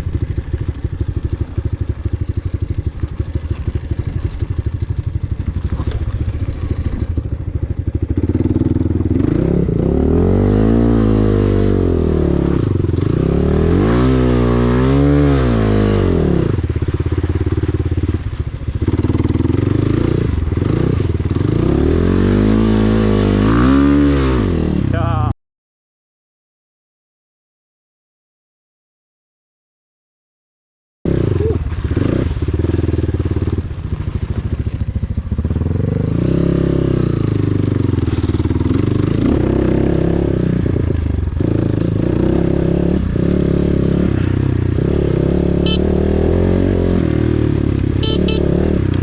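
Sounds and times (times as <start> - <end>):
motorcycle engine revving: 0.0 - 25.3, 31.1 - 49.0.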